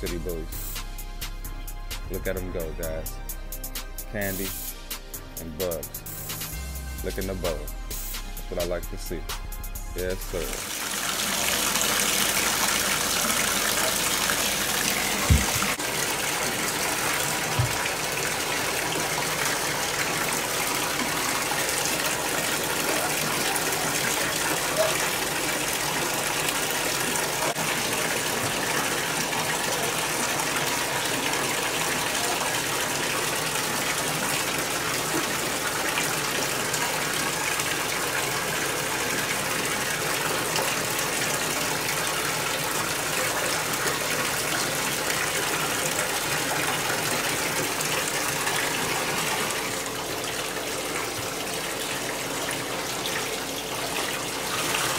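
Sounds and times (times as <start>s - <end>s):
faucet water gushing into tub: 7.3s - 54.9s.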